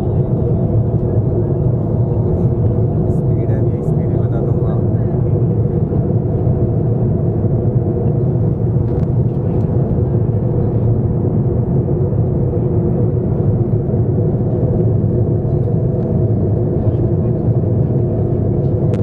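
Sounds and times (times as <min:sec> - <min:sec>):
jet cabin rumble: 0:00.0 - 0:19.0.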